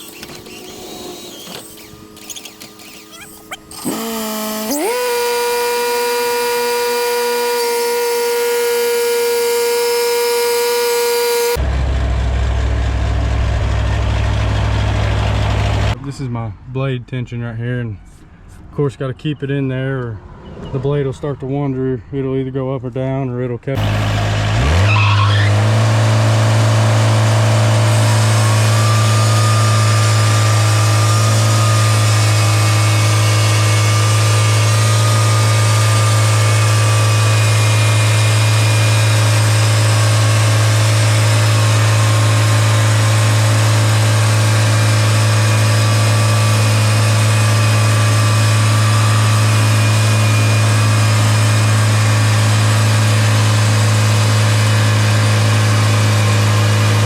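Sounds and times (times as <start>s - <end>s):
gas engine revving: 0.0s - 16.0s, 23.8s - 57.0s.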